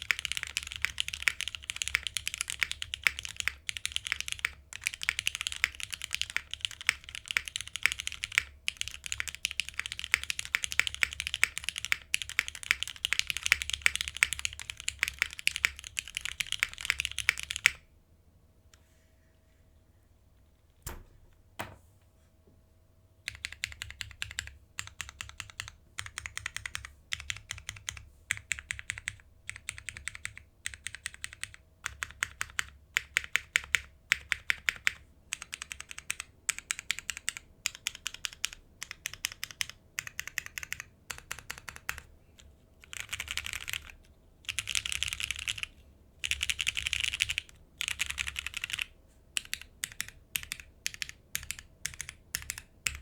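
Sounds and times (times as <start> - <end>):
mechanical keyboard typing: 0.0 - 17.8, 23.3 - 42.1, 42.8 - 53.0.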